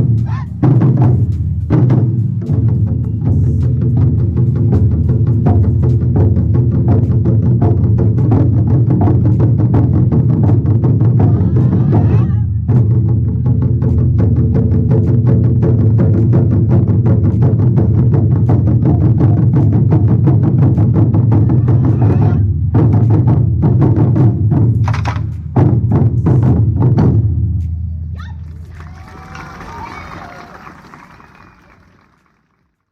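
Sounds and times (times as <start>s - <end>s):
deep bass: 0.0s - 30.4s
drum-heavy music: 0.0s - 31.2s.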